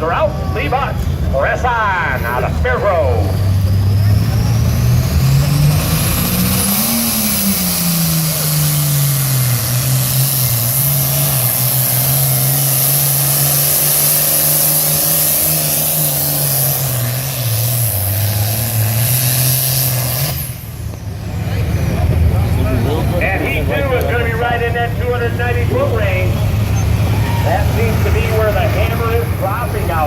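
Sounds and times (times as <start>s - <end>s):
pulling tractor engine under load: 3.3s - 30.0s.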